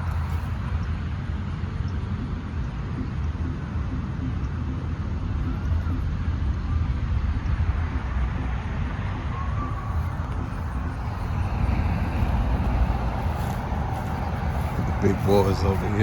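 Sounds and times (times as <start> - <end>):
fluctuating low rumble: 0.0 - 16.0.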